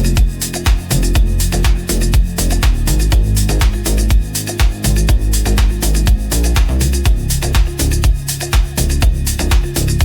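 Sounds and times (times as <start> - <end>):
house dance music: 0.0 - 10.0.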